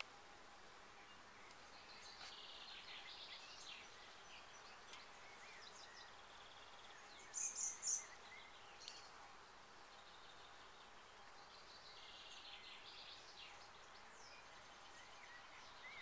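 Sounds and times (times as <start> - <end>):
outdoor background noise: 0.0 - 16.0
small birds chirping: 0.0 - 16.0.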